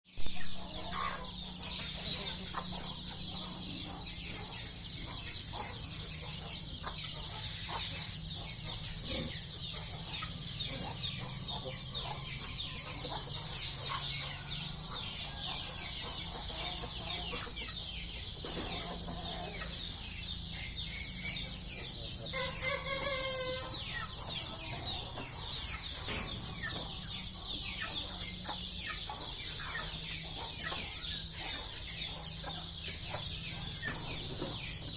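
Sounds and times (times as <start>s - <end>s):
chickens clucking: 0.1s - 34.9s
insects droning: 0.1s - 34.9s.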